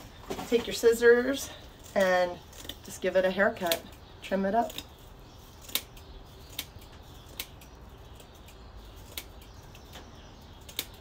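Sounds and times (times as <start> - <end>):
scissors snipping bristles: 0.7 - 11.0.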